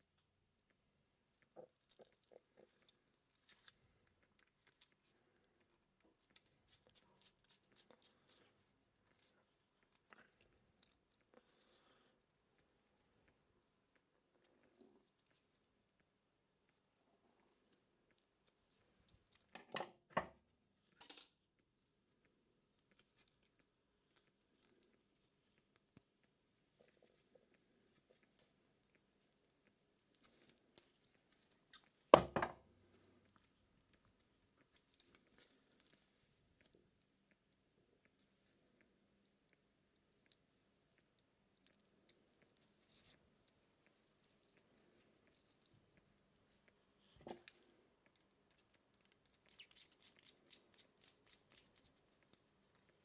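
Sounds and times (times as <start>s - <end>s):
small clicks and ticks: 0.0s - 53.0s.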